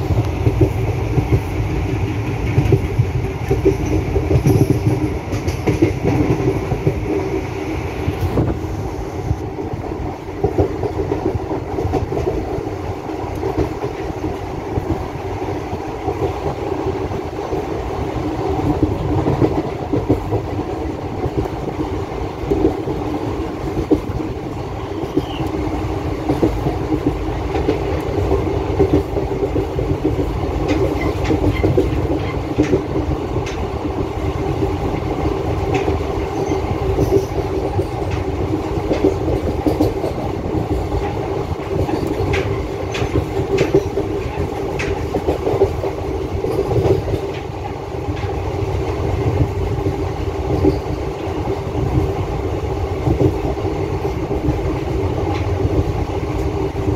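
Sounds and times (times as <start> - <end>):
wheels clicking on track: 0.0 - 7.3, 18.6 - 56.9
train rumble and rattle: 0.0 - 56.9.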